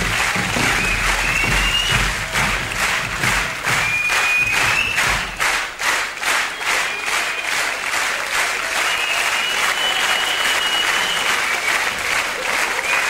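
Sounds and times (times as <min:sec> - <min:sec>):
audience applause: 0:00.0 - 0:13.0.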